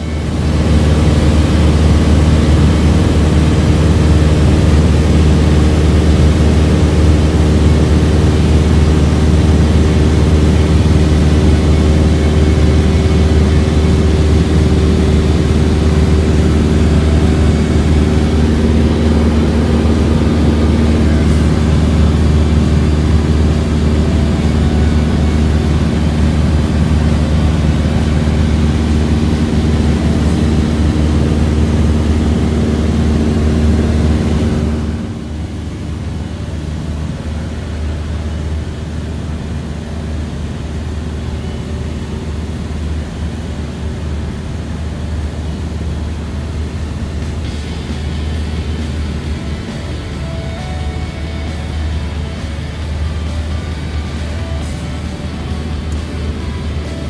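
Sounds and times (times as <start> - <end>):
light airplane engine droning: 0.0 - 57.0.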